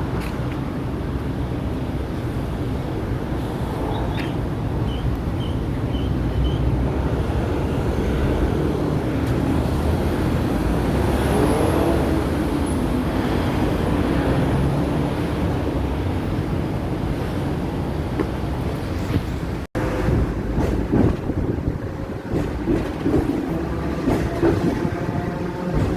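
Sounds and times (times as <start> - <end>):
road traffic: 0.0 - 25.9
tram rumbling: 0.0 - 25.9.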